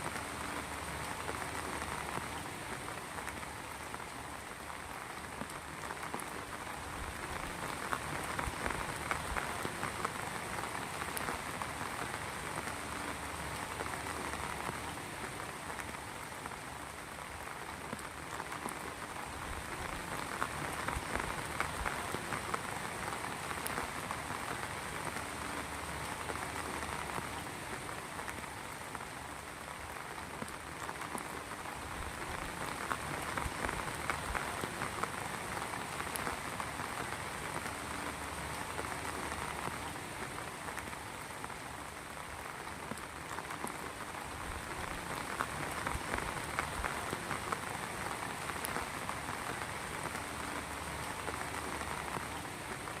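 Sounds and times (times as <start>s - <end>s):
heavy rain pattering: 0.0s - 53.0s.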